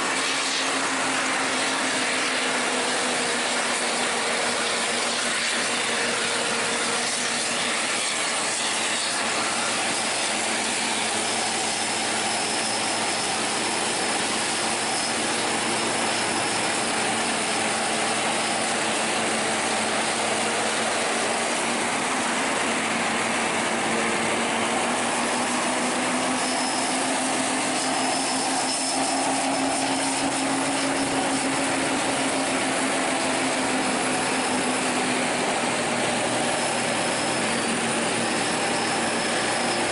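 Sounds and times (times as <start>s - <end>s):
bus engines: 0.0s - 39.9s
tyres on road: 0.0s - 39.9s
wind: 0.0s - 39.9s.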